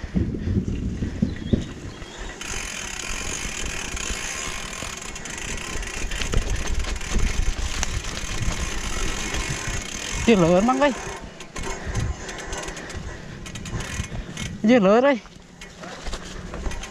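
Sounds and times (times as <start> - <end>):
rushing noise of riding: 0.0 - 16.9
bike knocking and rattling: 0.8 - 16.9.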